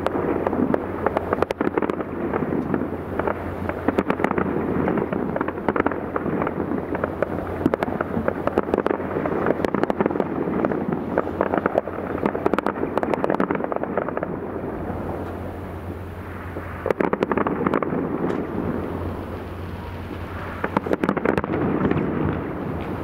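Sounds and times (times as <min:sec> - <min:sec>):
fireworks crackling and popping: 0:00.0 - 0:23.0
fireworks sharp bangs: 0:00.0 - 0:23.0.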